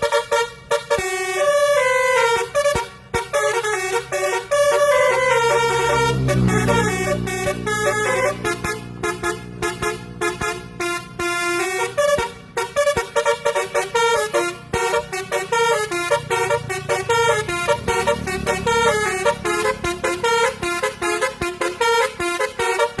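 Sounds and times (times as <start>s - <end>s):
bus horn playing melody: 0.0s - 23.0s.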